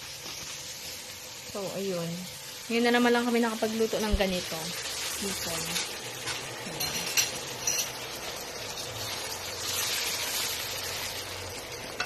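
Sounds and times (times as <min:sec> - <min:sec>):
shrimp sizzling in frying pan: 0:00.0 - 0:12.0.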